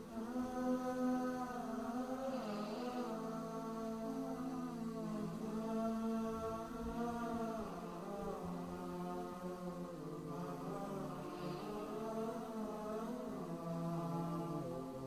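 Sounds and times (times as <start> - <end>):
slow chant-like music: 0.0 - 15.0.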